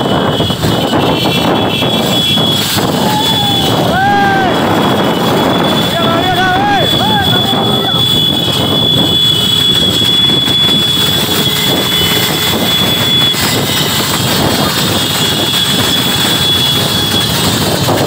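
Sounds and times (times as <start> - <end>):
motorbikes riding at speed: 0.0 - 18.0
wind on microphone: 0.0 - 18.0.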